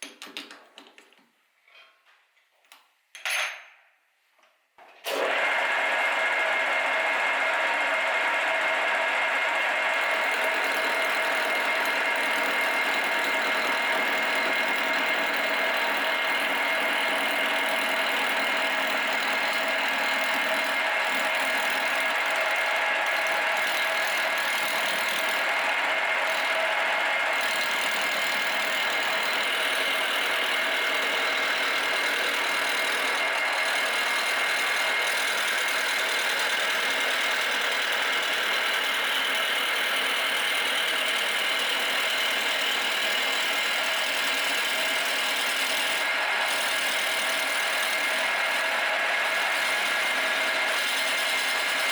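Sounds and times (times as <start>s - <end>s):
power tool whining: 5.1s - 51.9s.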